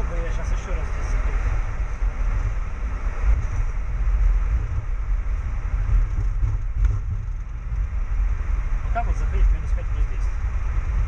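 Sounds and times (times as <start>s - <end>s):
airplane landing rumble: 0.0s - 11.0s.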